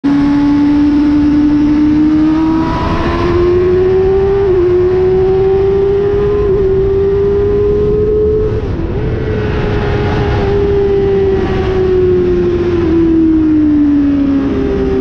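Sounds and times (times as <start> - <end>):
motorcycle engine accelerating: 0.0 - 15.0
wind rumble on microphone: 0.1 - 15.0.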